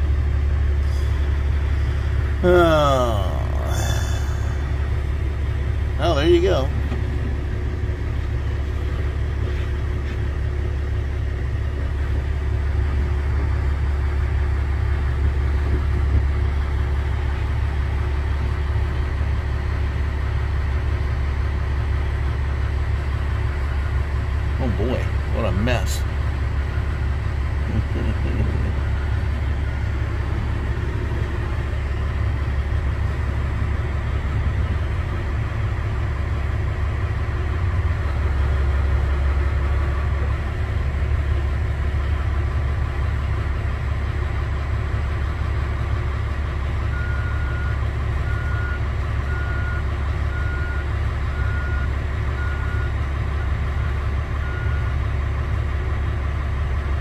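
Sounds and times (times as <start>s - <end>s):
heavy machinery engine rumbling: 0.0s - 57.0s.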